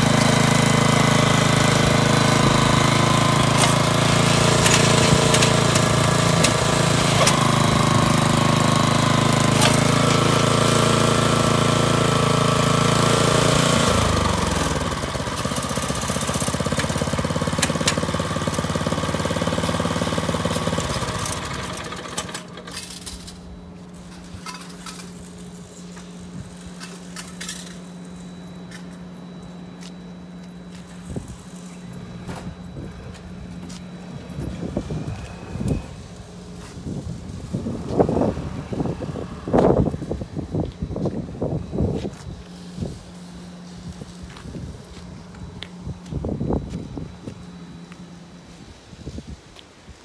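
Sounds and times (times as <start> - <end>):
tiller engine running: 0.0 - 28.9, 30.7 - 45.7.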